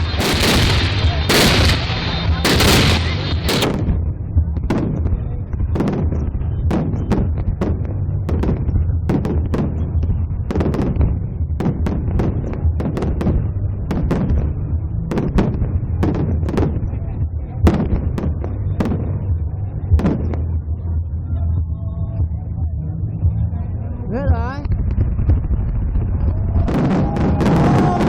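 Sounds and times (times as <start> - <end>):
fireworks bangs: 0.0 - 19.3, 24.7 - 28.0
low rumble: 0.0 - 28.0.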